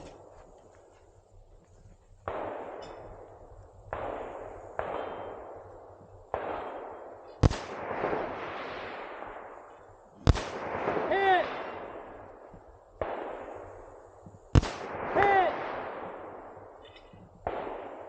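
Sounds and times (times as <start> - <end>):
echoing gunshots: 2.1 - 18.0.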